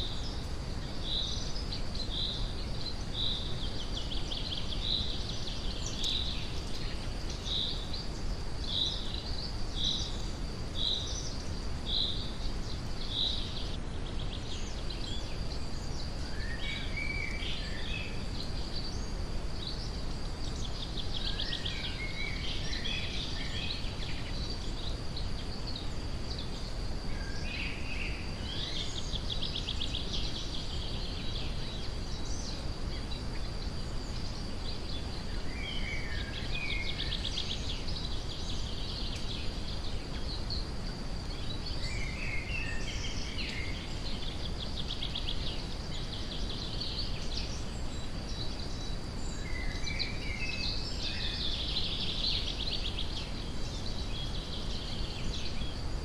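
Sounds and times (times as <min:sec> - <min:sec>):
forest birds singing: 0:00.0 - 0:56.0
steady brown noise: 0:00.0 - 0:56.0.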